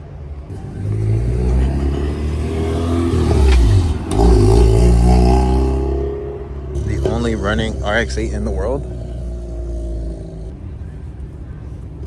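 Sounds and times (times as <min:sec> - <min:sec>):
car engine accelerating hard: 0:00.0 - 0:10.6.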